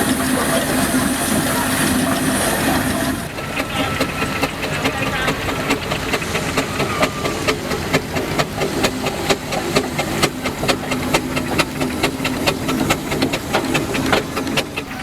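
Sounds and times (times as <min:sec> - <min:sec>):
steam engine hum: 0:00.0 - 0:15.0.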